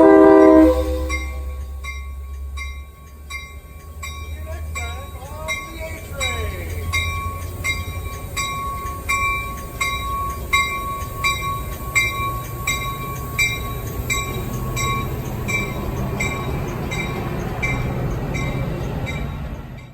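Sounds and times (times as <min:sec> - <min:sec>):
passing train rumble: 0:00.0 - 0:19.9
railroad bell ringing: 0:00.0 - 0:19.9.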